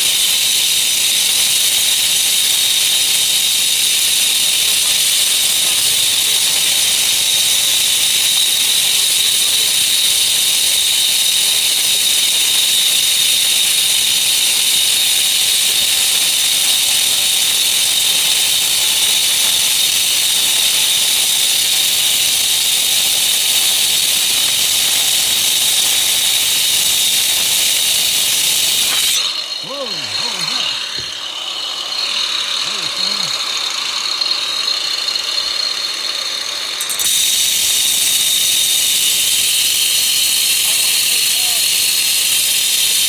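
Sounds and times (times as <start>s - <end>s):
angle grinder running: 0.0s - 43.0s.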